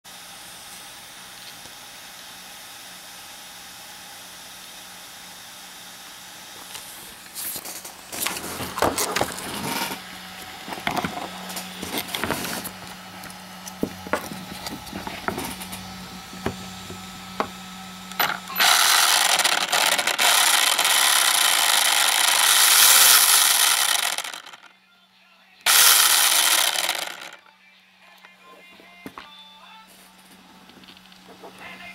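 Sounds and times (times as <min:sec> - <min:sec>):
toy truck motor running: 0:00.1 - 0:24.7, 0:25.6 - 0:27.4.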